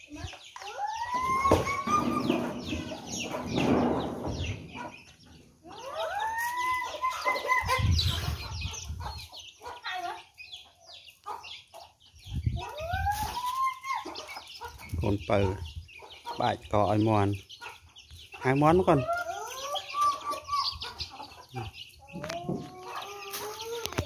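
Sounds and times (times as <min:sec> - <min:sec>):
chicks peeping: 0:00.0 - 0:24.0
hens clucking: 0:00.2 - 0:24.0.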